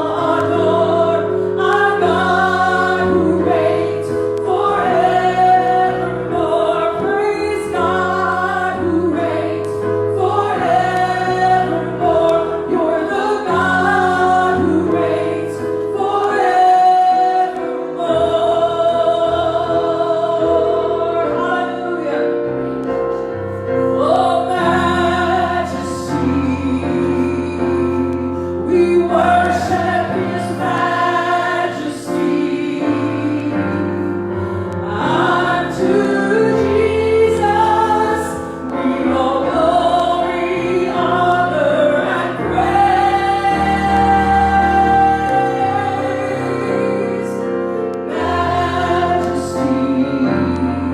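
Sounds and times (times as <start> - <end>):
congregation singing in harmony: 0.0 - 50.9.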